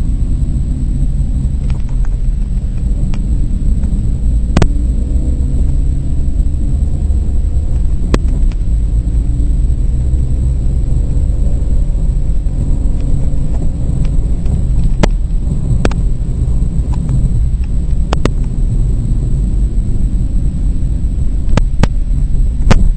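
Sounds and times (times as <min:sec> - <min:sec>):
car engine and tyres rumbling: 0:00.0 - 0:22.9.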